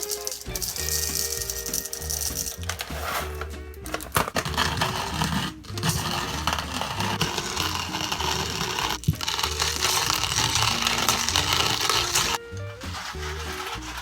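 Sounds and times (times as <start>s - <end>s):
background music: 0.0s - 14.0s
hand coffee grinder grinding: 0.0s - 14.0s.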